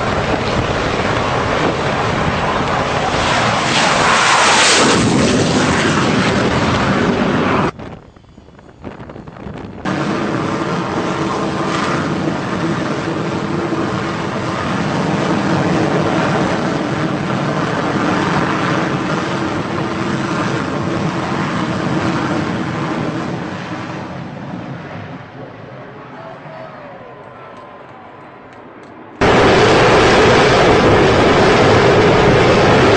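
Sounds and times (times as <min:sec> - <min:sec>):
jet engine running: 0:00.0 - 0:32.9.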